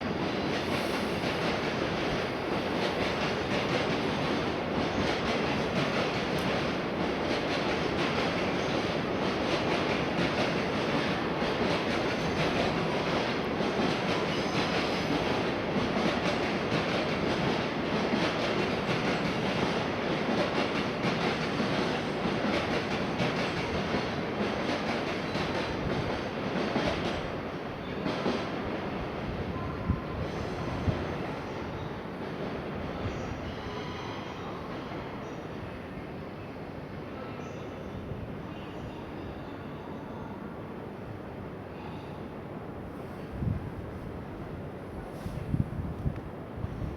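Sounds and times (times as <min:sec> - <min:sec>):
train pulling into station: 0:00.0 - 0:46.9.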